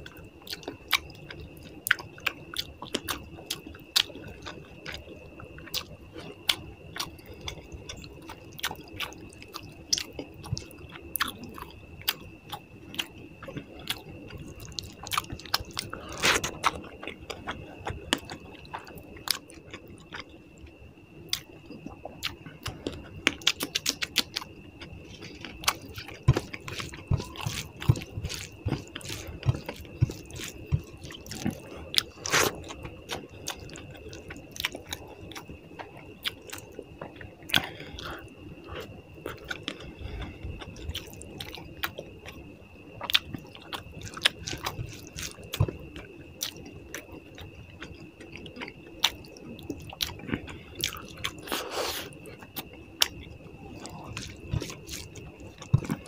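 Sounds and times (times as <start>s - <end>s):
person chewing food: 0.0s - 20.7s, 21.3s - 42.4s, 43.0s - 56.0s.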